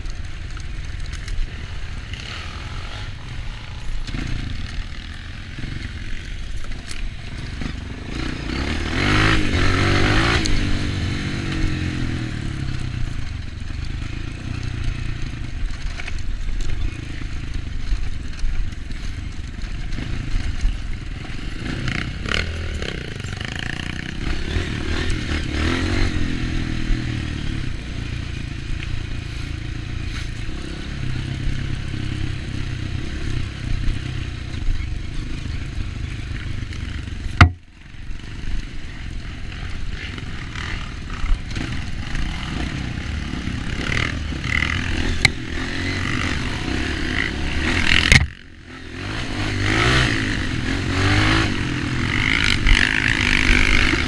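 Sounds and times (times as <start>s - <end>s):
dirt bike engine revving: 0.1s - 54.0s.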